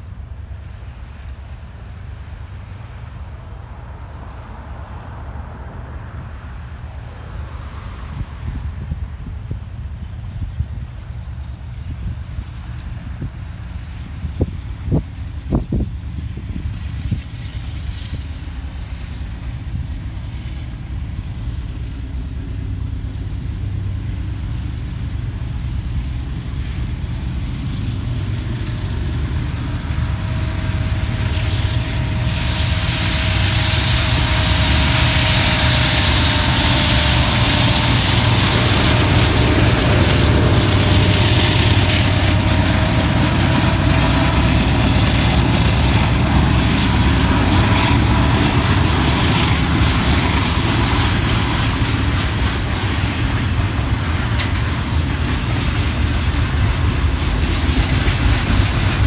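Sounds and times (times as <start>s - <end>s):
train engine rumble: 0.0s - 59.0s
steel wheels hissing on rail: 6.8s - 59.0s.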